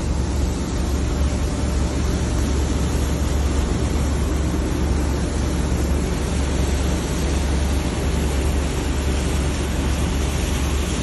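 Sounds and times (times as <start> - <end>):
machinery humming: 0.0 - 11.0
water churning: 0.0 - 11.0.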